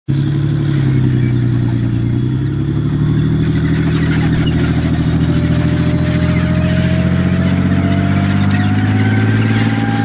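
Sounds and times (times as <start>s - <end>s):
tank diesel engine droning: 0.1s - 10.0s.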